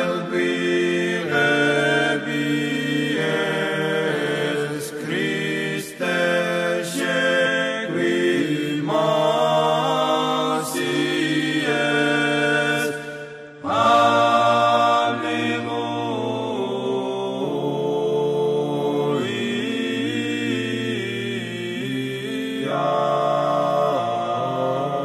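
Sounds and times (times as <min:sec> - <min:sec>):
voices chanting in harmony: 0:00.0 - 0:25.0.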